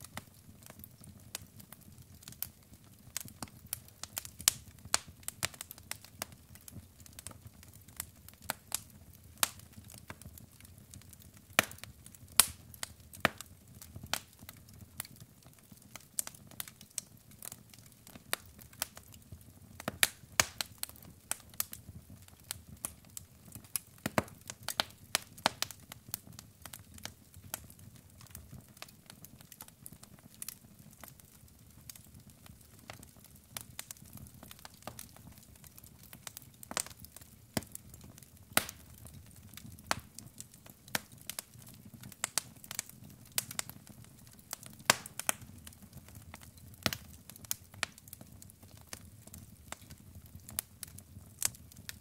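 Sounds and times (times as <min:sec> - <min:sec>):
logs crackling in fireplace: 0:00.0 - 0:52.0.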